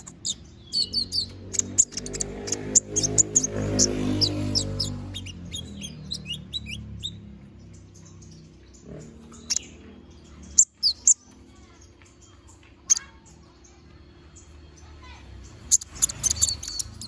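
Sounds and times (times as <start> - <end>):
sunbird chirping and twittering: 0.0 - 17.0.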